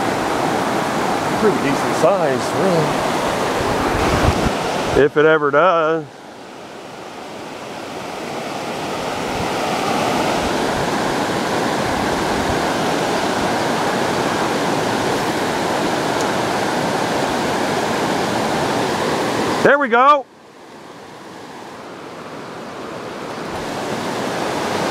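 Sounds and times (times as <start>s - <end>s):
river water over rapids: 0.0s - 24.9s.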